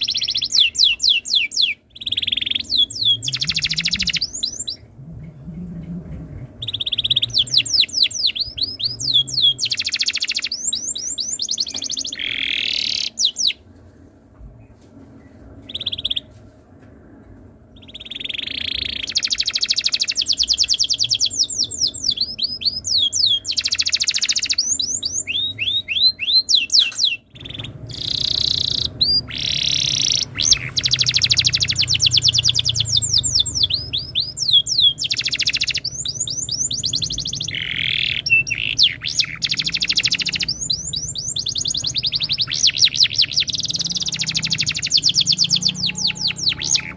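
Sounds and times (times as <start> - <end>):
canary singing trills: 0.0 - 13.6, 15.6 - 16.3, 17.7 - 46.9.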